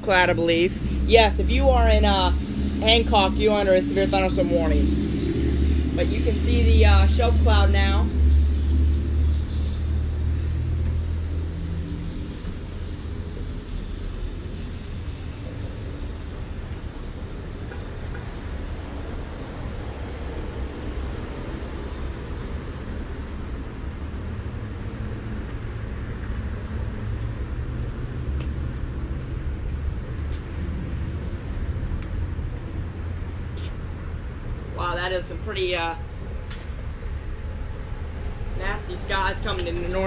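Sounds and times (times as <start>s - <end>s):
low street rumble: 0.0s - 40.0s.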